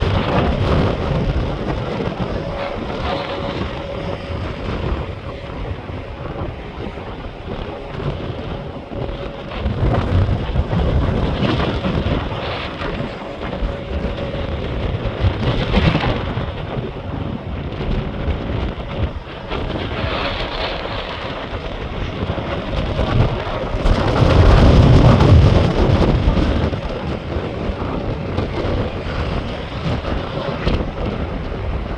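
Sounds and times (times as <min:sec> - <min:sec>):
gusting storm wind: 0:00.0 - 0:31.9
rain: 0:06.2 - 0:31.9.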